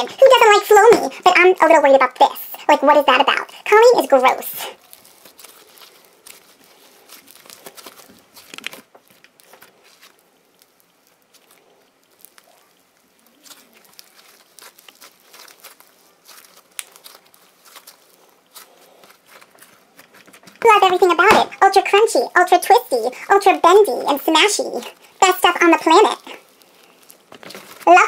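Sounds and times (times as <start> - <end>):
foam beads crackling and crunching: 0.0 - 21.2, 24.0 - 28.0.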